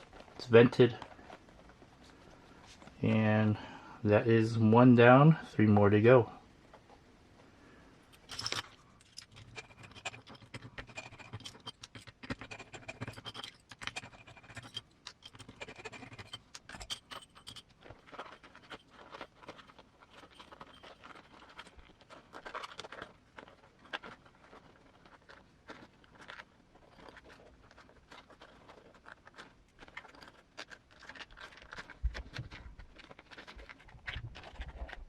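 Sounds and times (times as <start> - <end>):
scratching and scraping of rubber: 0.0 - 4.8, 6.0 - 35.0.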